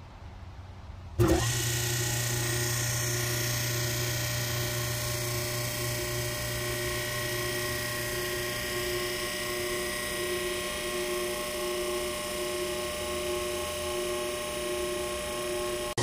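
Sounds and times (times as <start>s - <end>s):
electric motor humming: 1.2s - 16.0s.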